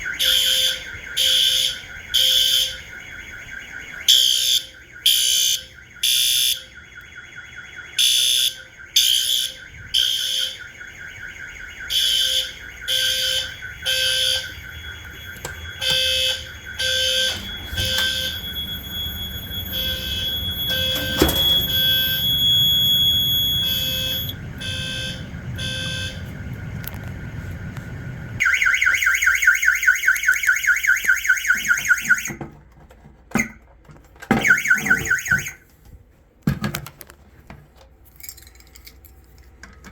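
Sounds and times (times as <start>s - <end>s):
fast-pulsing alarm: 0.0s - 32.4s, 34.3s - 35.6s
fire alarm horn blasts: 0.0s - 32.4s, 34.3s - 35.7s.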